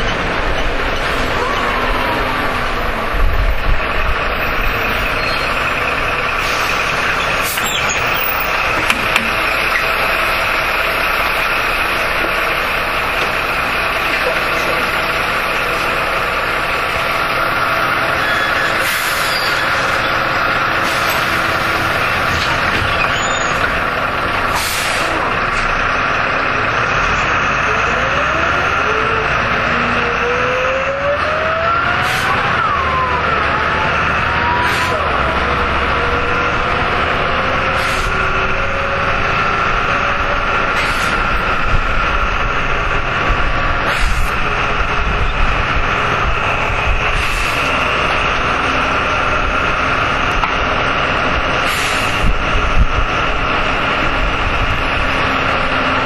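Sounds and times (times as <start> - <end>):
bus diesel engine idling: 0.0 - 31.0, 31.9 - 56.0
road and cabin noise: 0.0 - 56.0.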